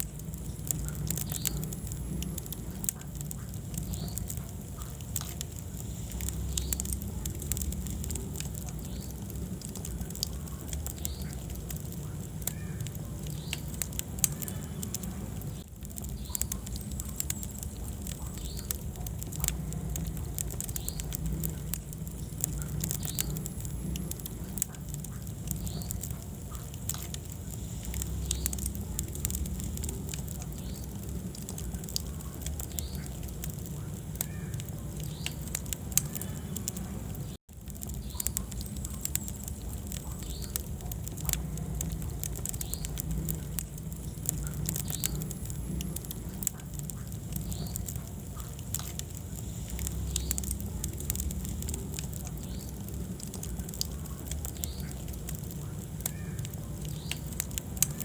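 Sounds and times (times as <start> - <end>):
flames rumbling: 0.0 - 58.0
logs crackling and popping: 0.0 - 58.0.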